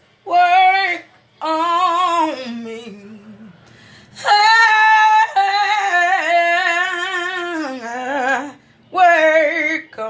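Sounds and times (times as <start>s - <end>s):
woman singing unaccompanied: 0.2s - 10.0s.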